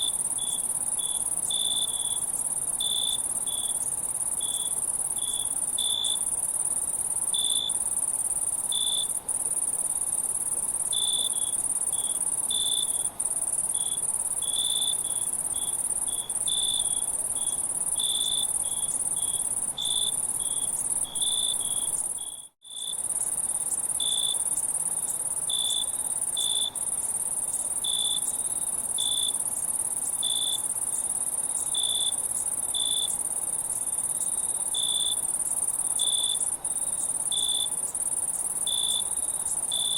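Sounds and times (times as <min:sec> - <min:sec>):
insect chirps: 0:00.0 - 0:39.9
insect drone: 0:00.0 - 0:39.9.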